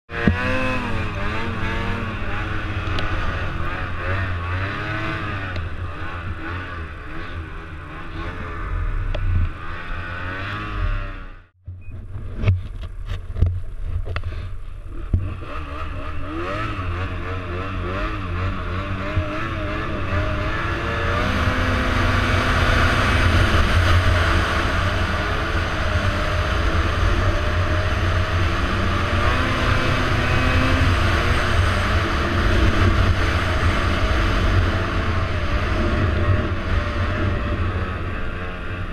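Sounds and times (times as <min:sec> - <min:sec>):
snowmobile engine revving: 0:00.1 - 0:11.5, 0:14.3 - 0:38.9.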